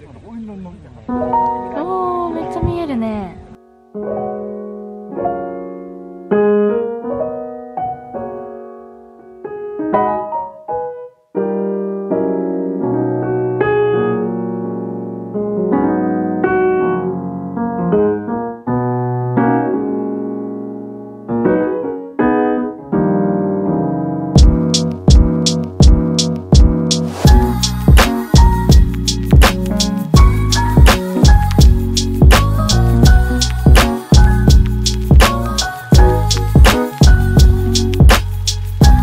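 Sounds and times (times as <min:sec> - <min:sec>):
solo piano playing chords: 0:01.1 - 0:39.0.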